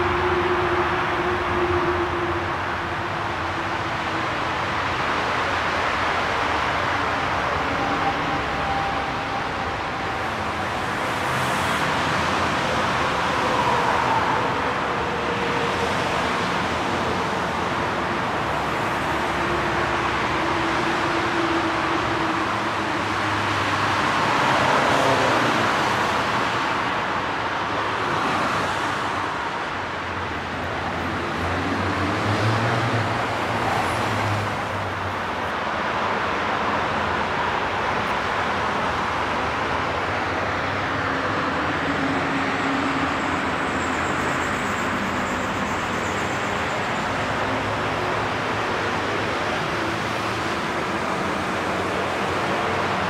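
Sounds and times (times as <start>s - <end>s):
dense motorway traffic rushing: 0.0s - 53.0s.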